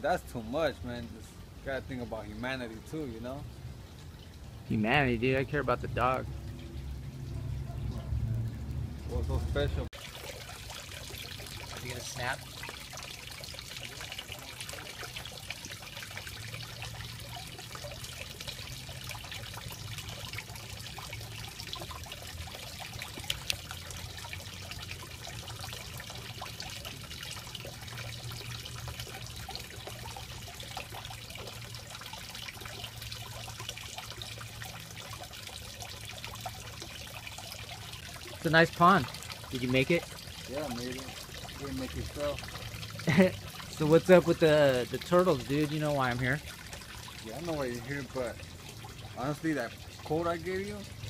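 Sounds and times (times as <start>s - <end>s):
water trickling into pond: 0.0s - 51.0s.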